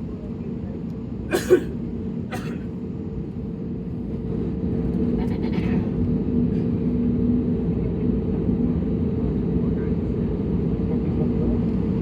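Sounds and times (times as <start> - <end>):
jet engines droning in cabin: 0.0 - 12.0.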